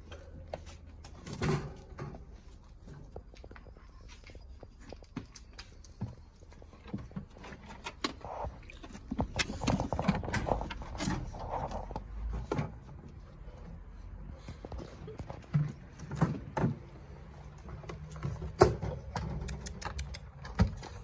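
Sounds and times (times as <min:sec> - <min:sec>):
puppies tapping and scuffing: 0:00.0 - 0:21.0.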